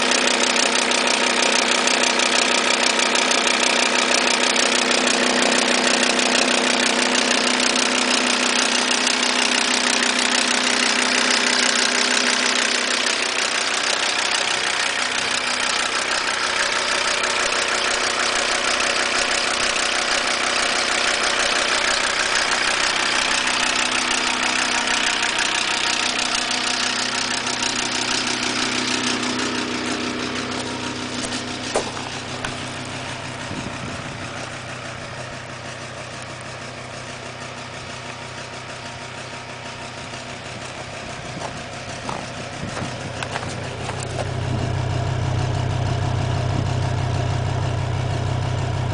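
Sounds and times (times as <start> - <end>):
diesel engine idling: 0.0 - 48.9
rapid engine ticking: 0.0 - 48.9.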